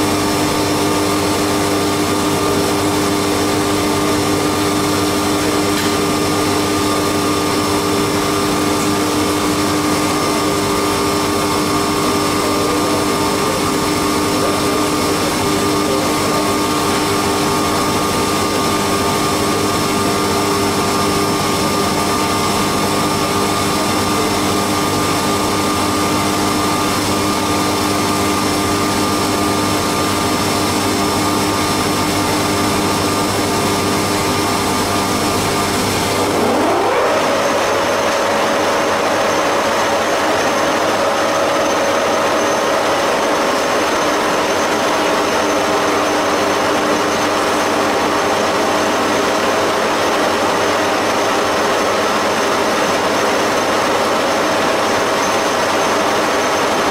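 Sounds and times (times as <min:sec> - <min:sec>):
milling machine whine: 0:00.0 - 0:56.9.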